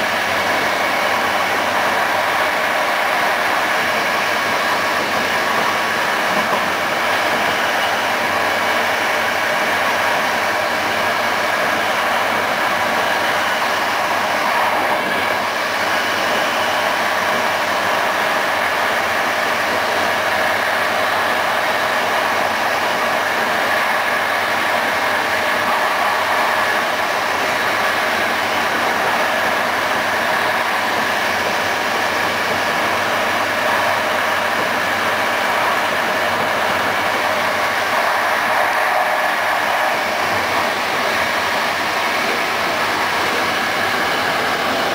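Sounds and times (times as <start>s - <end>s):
train wheels rolling on rails: 0.0s - 44.9s.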